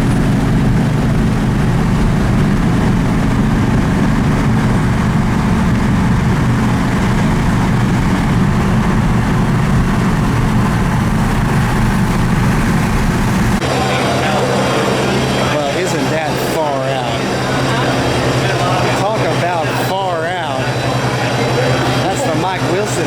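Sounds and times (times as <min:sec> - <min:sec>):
car engine drone: 0:00.0 - 0:23.0
road noise inside car: 0:00.0 - 0:23.0.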